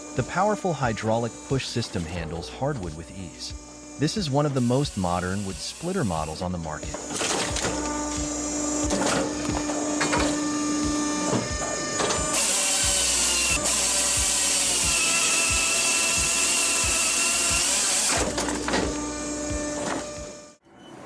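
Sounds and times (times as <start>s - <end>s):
cutting noise with high whine: 0.0s - 20.6s
steady machine hum: 0.0s - 20.6s.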